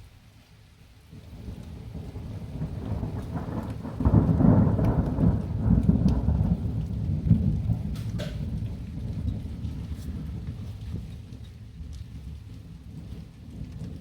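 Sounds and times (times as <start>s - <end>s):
rain falling: 0.0s - 14.0s
thunder rolling: 1.3s - 14.0s
raindrop ticks: 1.4s - 14.0s.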